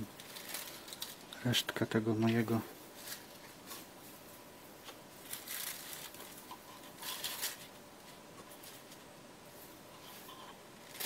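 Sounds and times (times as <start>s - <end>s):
tissue paper rustling: 0.2s - 1.3s, 2.9s - 11.0s.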